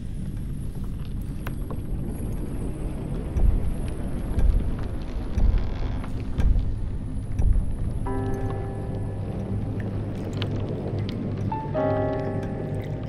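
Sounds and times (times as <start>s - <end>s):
low rumbling film score drone: 0.0s - 13.0s.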